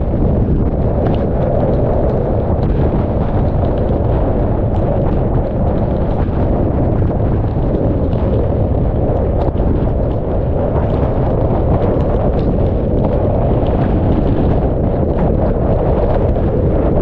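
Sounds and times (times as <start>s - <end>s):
loud wind buffeting microphone: 0.0s - 17.0s
rain ticking on camera: 0.1s - 17.0s.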